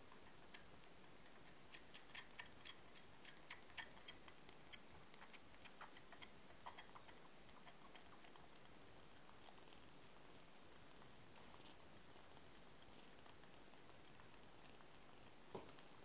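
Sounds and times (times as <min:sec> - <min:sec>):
kitten suckling wet clicks: 0:00.1 - 0:16.0.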